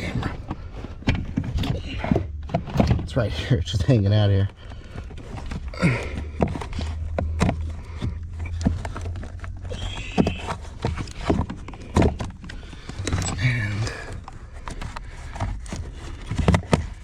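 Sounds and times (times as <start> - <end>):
clicks of handling wiring and trim: 0.0 - 17.0
low steady hum: 0.0 - 17.0.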